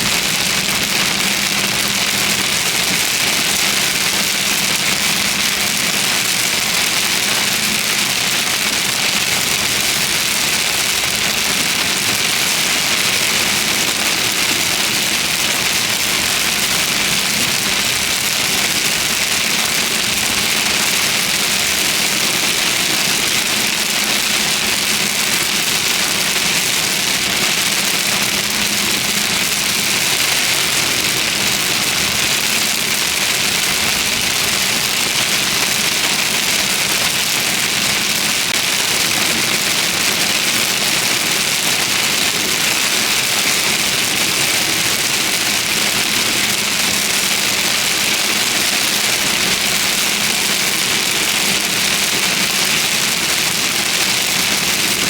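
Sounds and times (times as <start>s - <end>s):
heavy rain hitting a vehicle: 0.0s - 55.0s.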